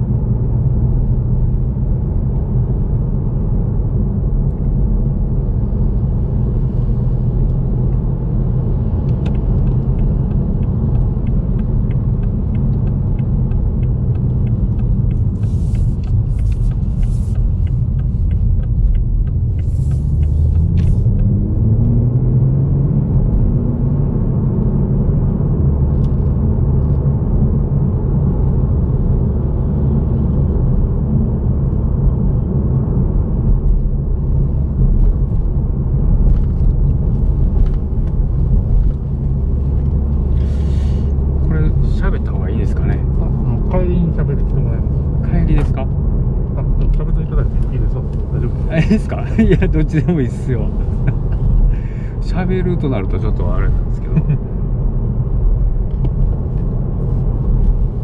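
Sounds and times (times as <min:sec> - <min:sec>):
car engine accelerating: 0:00.0 - 0:58.0
road rumble: 0:00.0 - 0:58.0.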